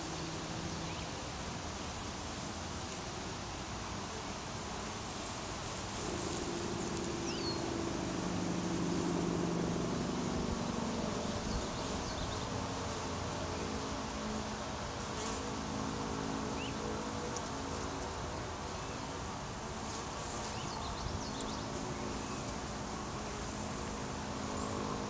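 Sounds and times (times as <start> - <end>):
bees flying close by: 3.9 - 25.0
bee swarm buzzing: 4.0 - 25.0.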